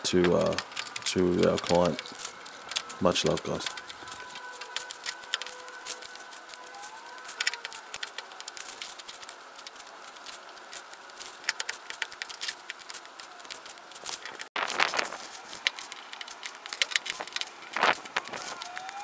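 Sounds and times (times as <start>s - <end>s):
plastic bag crackling and rustling: 0.0s - 19.0s.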